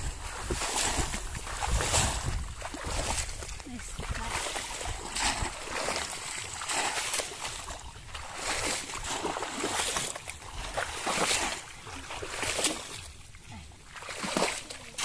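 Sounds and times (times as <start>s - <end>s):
shallow water splashing: 0.0s - 15.0s.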